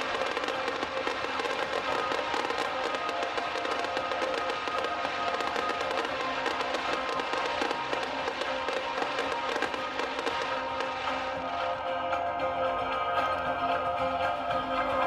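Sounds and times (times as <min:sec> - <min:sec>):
fireworks crackling and popping: 0:00.0 - 0:12.5
music: 0:00.0 - 0:15.0.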